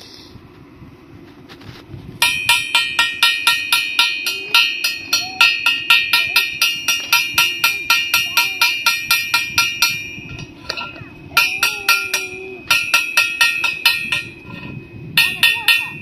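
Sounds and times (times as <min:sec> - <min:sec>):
metal object struck rhythmically: 0:02.2 - 0:16.0.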